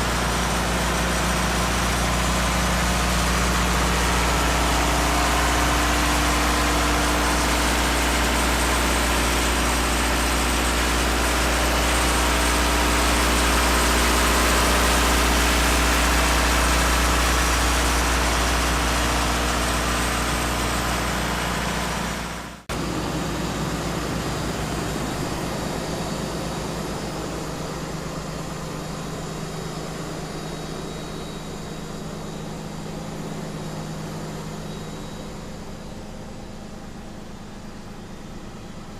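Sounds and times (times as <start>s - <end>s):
street sweeper engine running: 0.0s - 38.9s.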